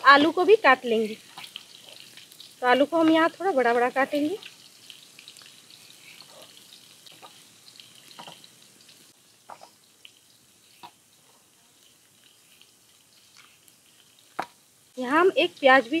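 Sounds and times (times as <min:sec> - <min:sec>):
fish frying in oil: 0:00.0 - 0:16.0.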